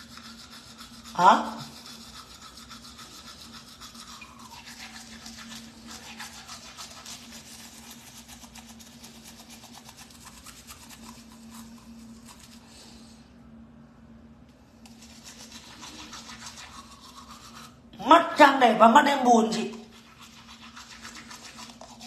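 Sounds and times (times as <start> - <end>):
toothbrush scrubbing teeth: 0.0 - 13.0, 14.7 - 22.0
steady low hum: 0.0 - 22.0.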